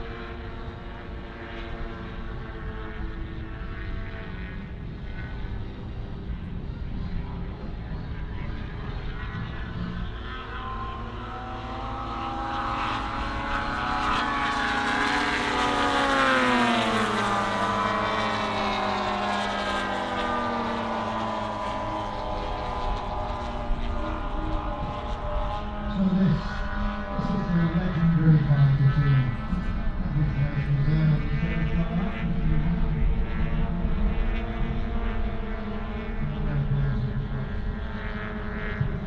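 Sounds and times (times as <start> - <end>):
model plane engine flypast: 0.0 - 39.0.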